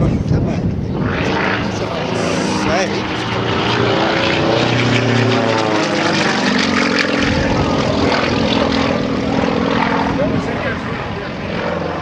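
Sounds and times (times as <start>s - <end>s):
propeller plane flying overhead: 0.0s - 12.0s.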